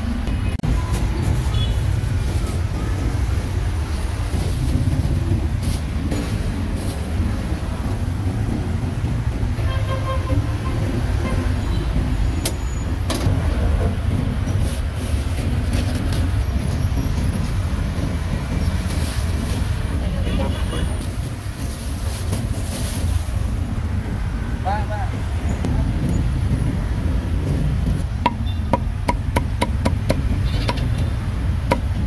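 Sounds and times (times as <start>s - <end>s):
traffic rumble: 0.0s - 32.0s.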